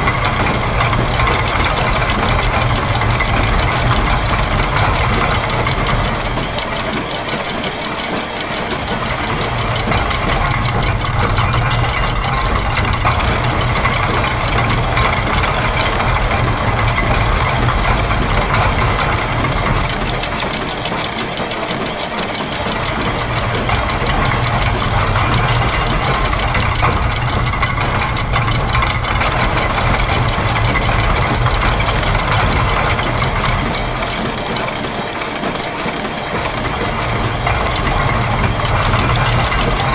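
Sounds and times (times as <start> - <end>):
clockwork ticking: 0.0 - 39.9
gears turning: 0.0 - 39.9
sewing machine: 0.0 - 39.9.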